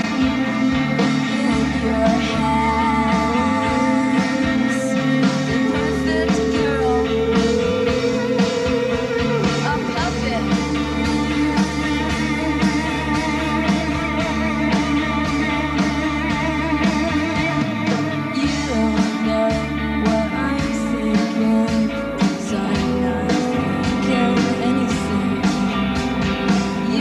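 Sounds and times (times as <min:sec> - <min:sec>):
drums keeping a steady beat: 0:00.0 - 0:27.0
electric guitars: 0:00.0 - 0:27.0.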